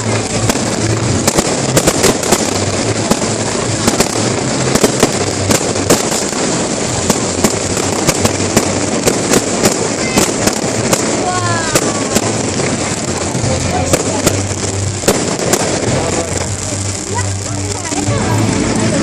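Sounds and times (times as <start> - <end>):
firework bangs and pops: 0.0 - 19.0
firework crackle: 0.0 - 19.0.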